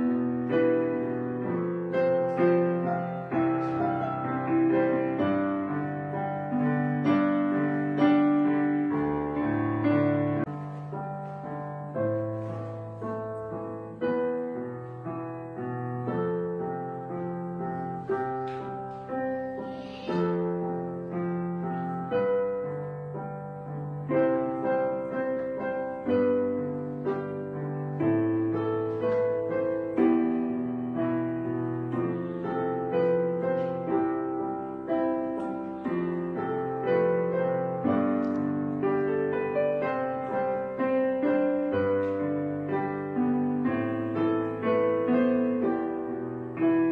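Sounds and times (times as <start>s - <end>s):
slow piano melody: 0.0s - 46.9s.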